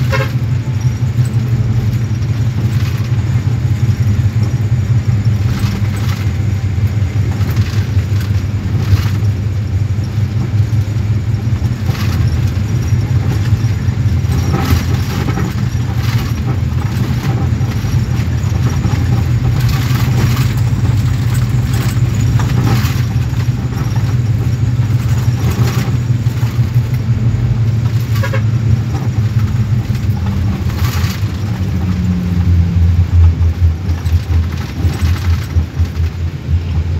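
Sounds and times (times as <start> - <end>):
bus engine rumble: 0.0 - 36.9
rattles and knocks: 0.0 - 36.9.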